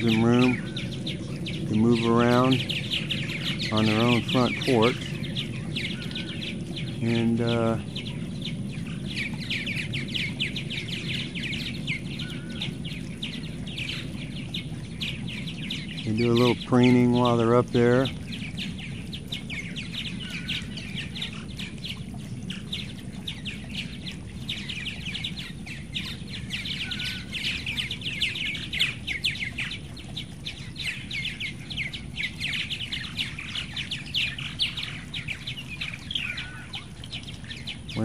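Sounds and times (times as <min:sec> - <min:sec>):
birds chattering: 0:00.0 - 0:38.0
low steady hum: 0:00.0 - 0:38.0.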